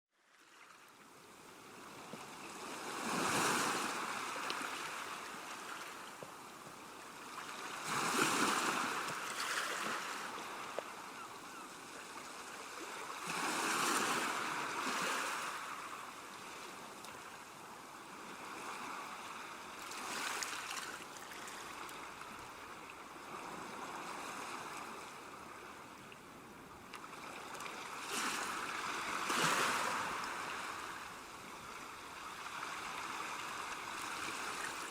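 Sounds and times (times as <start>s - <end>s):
waves breaking on a beach: 0.2s - 34.9s.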